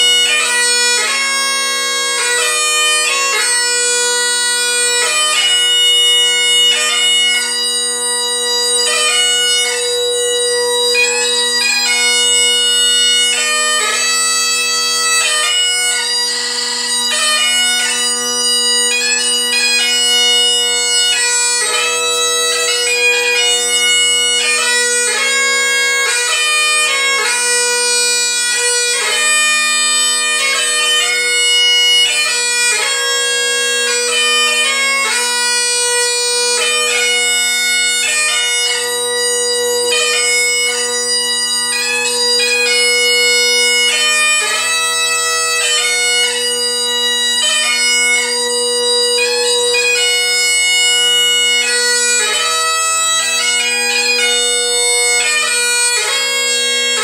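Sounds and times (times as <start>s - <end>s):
bagpipe chanter melody: 0.0s - 57.0s
bagpipe drone: 0.0s - 57.0s.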